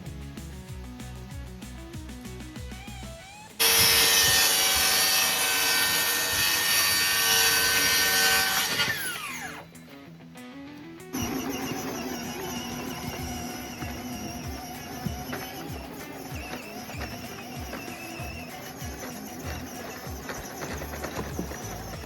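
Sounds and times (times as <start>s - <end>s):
background music: 0.0s - 22.0s
power tool motor running: 2.6s - 9.7s, 11.1s - 22.0s.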